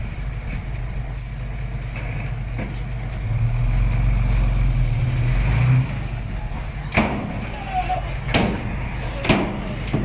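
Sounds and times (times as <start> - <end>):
heavy machinery diesel engine: 0.0 - 10.0.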